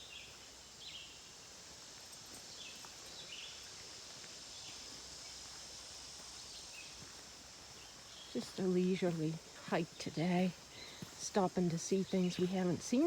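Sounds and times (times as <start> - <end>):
crickets hissing: 0.0 - 13.0
high insect chirps: 0.0 - 13.0.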